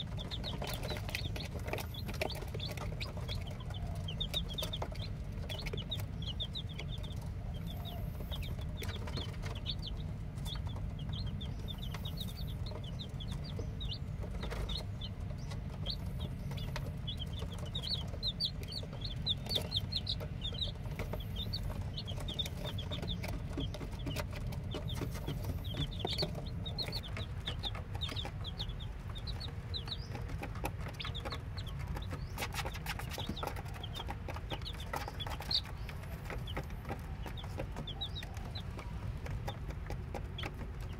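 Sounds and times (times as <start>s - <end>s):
chicks peeping: 0.0s - 40.9s
steady low hum: 0.0s - 40.9s.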